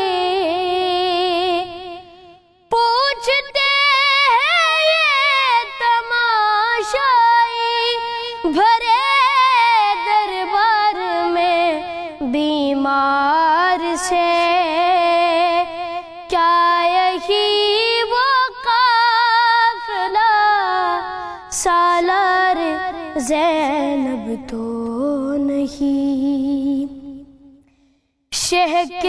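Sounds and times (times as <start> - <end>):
boy chanting a lament: 0.0 - 27.3, 28.4 - 29.0.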